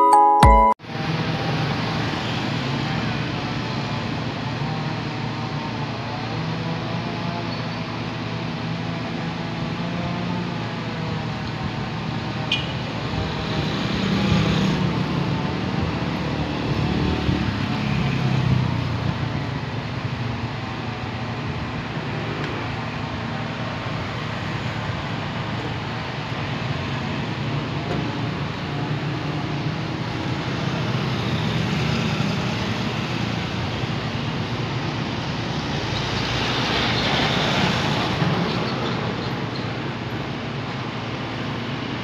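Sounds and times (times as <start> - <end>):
road traffic hum: 0.8 - 42.0
vehicles passing: 0.9 - 42.0.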